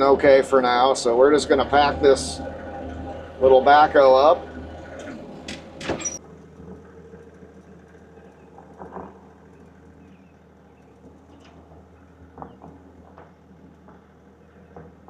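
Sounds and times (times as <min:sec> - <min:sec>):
backhoe engine idling: 0:00.0 - 0:15.0.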